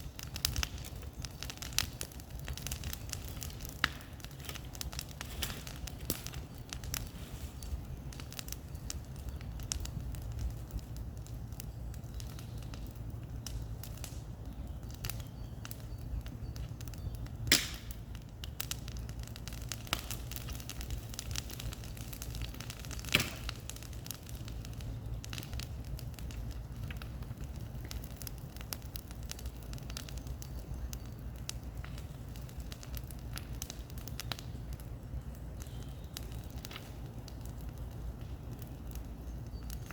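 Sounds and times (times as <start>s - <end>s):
bonfire rumbling: 0.0s - 39.9s
fire crackling and snapping: 0.0s - 39.9s
loud fire pops: 0.0s - 39.9s.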